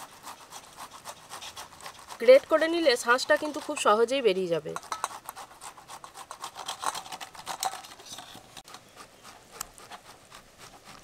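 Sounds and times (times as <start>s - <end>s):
mango rasping on a grater: 0.0s - 11.0s.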